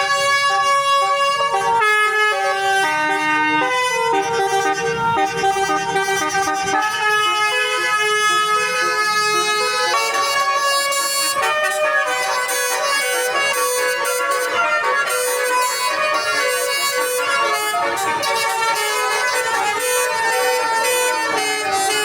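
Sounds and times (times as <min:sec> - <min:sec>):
multi-tone air horn tune: 0:00.0 - 0:22.0.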